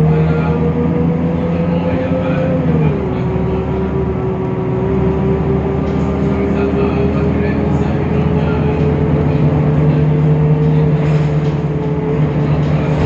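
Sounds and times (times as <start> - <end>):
bus diesel engine running: 0.0 - 13.0
low hum: 0.0 - 13.0.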